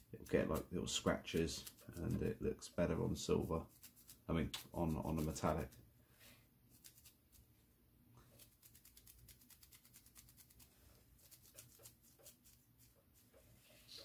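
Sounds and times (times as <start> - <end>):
dry brush scratching on resin: 0.0 - 5.8, 8.3 - 14.0.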